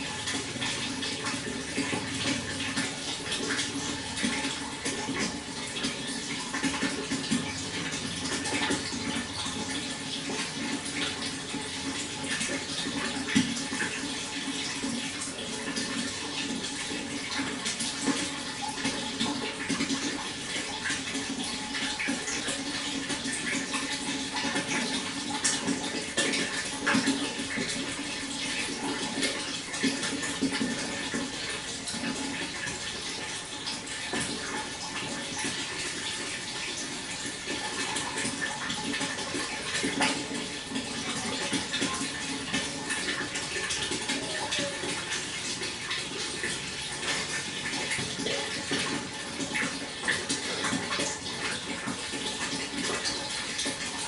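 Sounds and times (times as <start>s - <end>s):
small splashes and trickles: 0.0s - 54.0s
water flowing: 0.0s - 54.0s.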